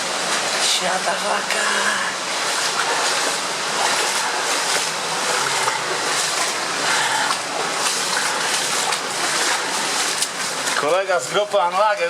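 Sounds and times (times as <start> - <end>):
water rushing in a tunnel: 0.0 - 12.0.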